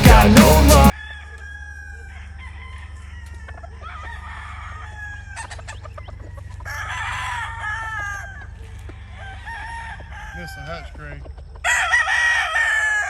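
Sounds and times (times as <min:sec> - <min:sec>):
roosters crowing: 0:00.0 - 0:13.0
chickens clucking: 0:01.3 - 0:13.0.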